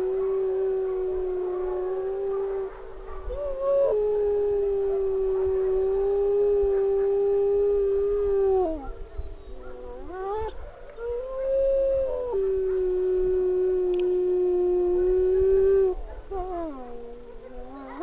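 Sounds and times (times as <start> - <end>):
wolf howling: 0.0 - 9.0, 9.6 - 18.0.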